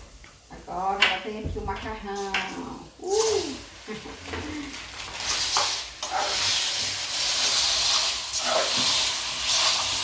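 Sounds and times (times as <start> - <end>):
food sizzling in a pan: 0.4 - 10.0.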